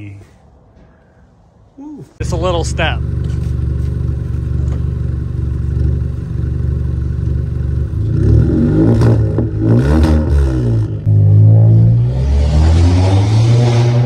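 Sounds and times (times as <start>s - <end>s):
car engine idling and revving: 2.2s - 14.0s.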